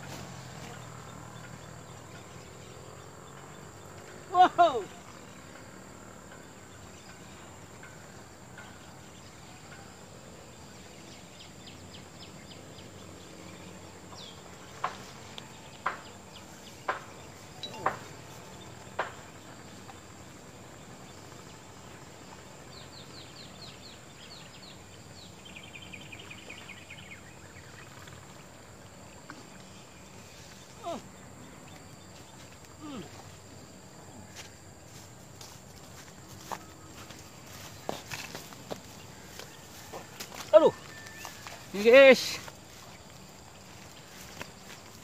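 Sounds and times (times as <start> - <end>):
high insect drone: 0.0 - 45.0.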